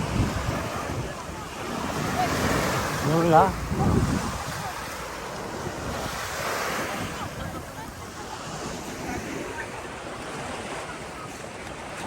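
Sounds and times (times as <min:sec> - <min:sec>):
faint voices: 0:00.0 - 0:12.0
small waves washing onto sand: 0:00.0 - 0:12.0.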